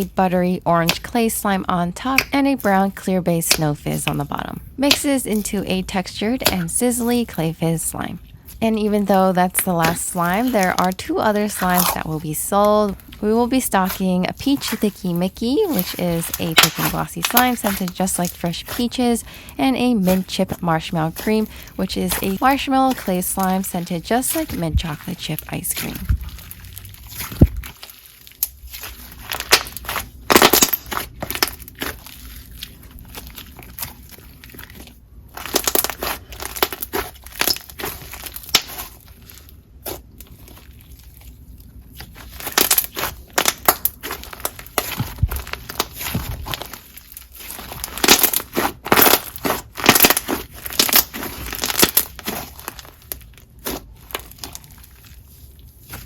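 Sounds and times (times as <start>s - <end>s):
hands squishing slime: 0.8s - 7.7s, 8.4s - 56.0s.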